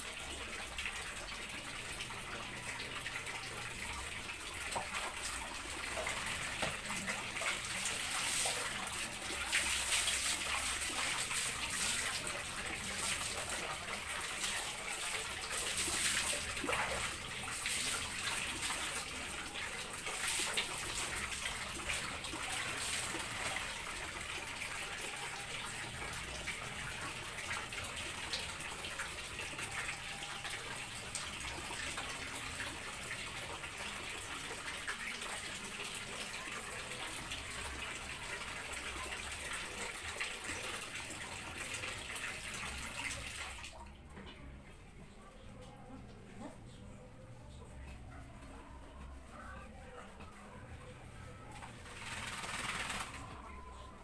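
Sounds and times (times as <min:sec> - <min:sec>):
tap water running into drum: 0:00.0 - 0:44.4, 0:51.8 - 0:53.4.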